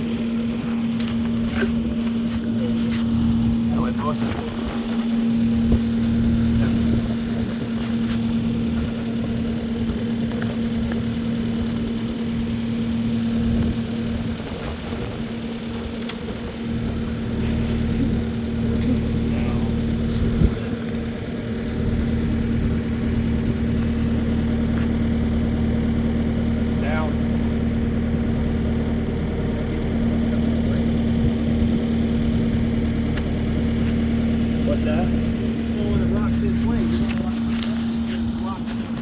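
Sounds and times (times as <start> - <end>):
engine idling: 0.0 - 39.0.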